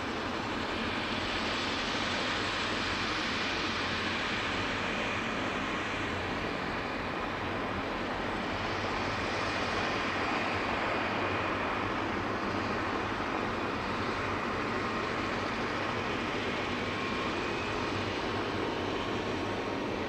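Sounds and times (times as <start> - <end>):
helicopter rotor rush: 0.0 - 20.0
helicopter turbine engine whine: 0.0 - 20.0.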